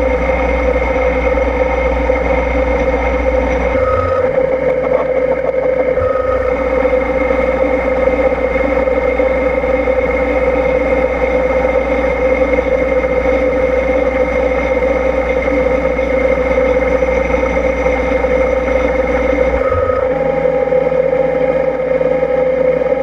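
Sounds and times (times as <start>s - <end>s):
milling machine hum with whine: 0.0s - 23.0s.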